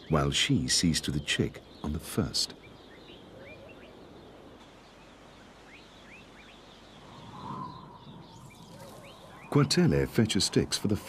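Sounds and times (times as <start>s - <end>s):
rising bird chirps: 0.0s - 10.8s
faint outdoor ambience: 0.0s - 11.0s.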